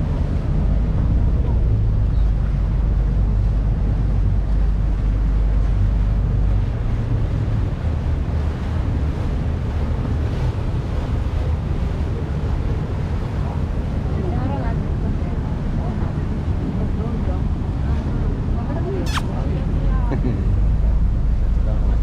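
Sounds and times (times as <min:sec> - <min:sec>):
heavy low rumble: 0:00.0 - 0:22.0
wind buffeting microphone: 0:00.0 - 0:22.0.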